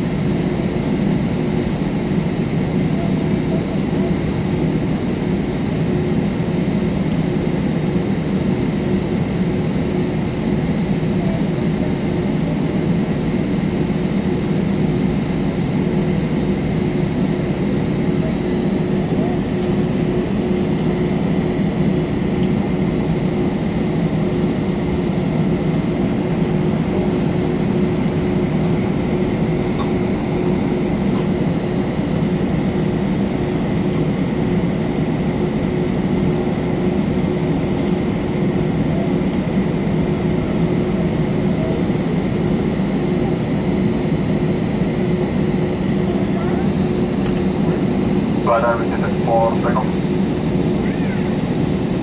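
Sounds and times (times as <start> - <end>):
airliner cabin engine drone: 0.0 - 52.0.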